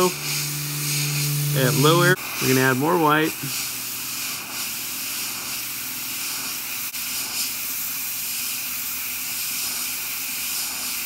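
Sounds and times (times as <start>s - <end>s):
airbrush hissing: 0.0s - 11.0s.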